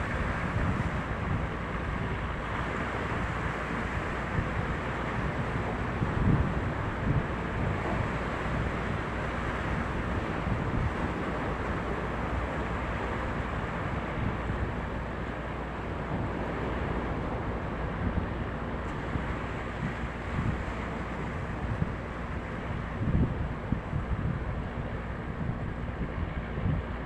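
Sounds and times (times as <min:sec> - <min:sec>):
boat engine droning: 0:00.0 - 0:27.0
wind gusting on microphone: 0:00.0 - 0:27.0.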